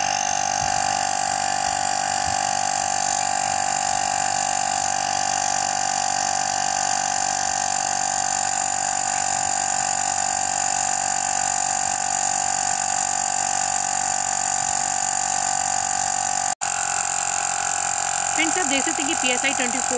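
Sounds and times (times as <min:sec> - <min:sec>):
air compressor whining: 0:00.0 - 0:19.9.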